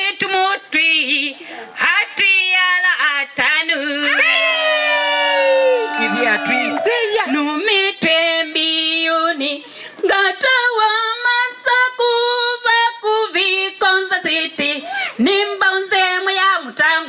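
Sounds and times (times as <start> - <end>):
women singing a hymn: 0.0 - 4.6, 6.0 - 17.0.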